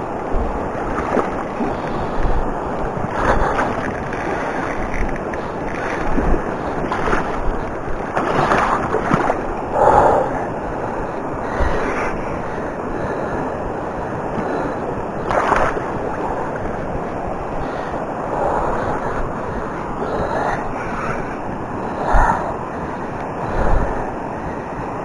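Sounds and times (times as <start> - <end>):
river water rushing: 0.0 - 25.0
wind on microphone: 0.0 - 25.0.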